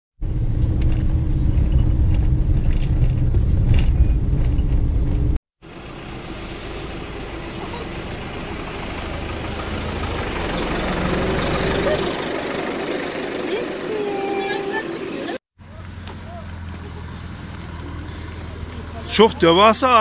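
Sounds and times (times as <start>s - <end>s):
car engine and tyre rumble: 0.2s - 20.0s.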